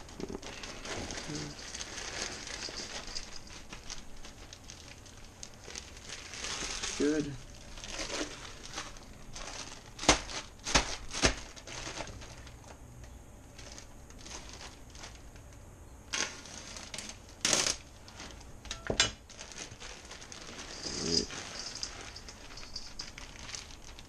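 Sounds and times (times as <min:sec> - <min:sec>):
plastic bag crinkling: 0:00.0 - 0:12.8, 0:13.5 - 0:24.0.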